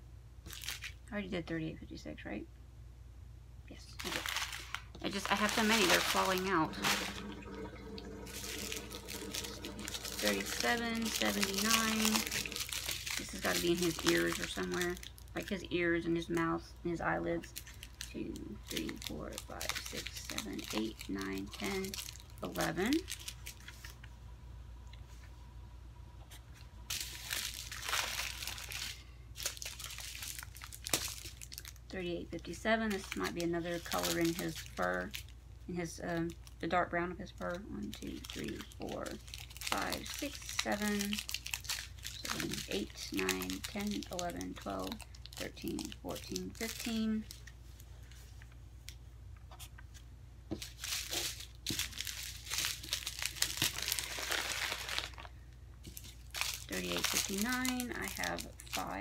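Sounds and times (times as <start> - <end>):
plastic bags crinkling: 0.5 - 1.1, 4.0 - 24.1, 26.8 - 35.3, 36.1 - 36.7, 37.3 - 48.4, 50.5 - 59.0.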